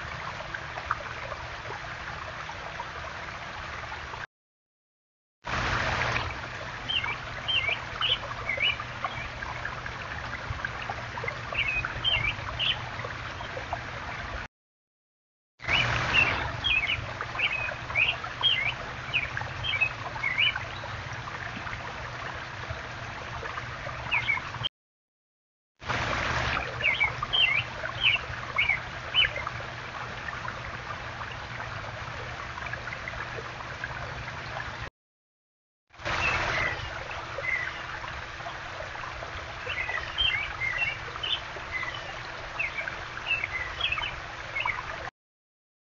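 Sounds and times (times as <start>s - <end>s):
water running over stones: 0.0s - 4.2s, 5.4s - 14.5s, 15.6s - 24.7s, 25.8s - 34.9s, 36.0s - 45.1s.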